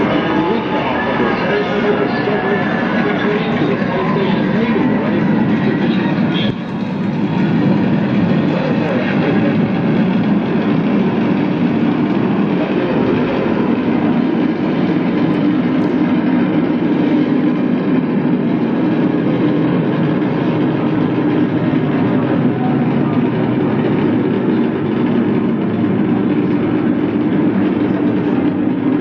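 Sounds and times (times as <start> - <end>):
rocket launch roar over loudspeakers: 0.0 - 29.0.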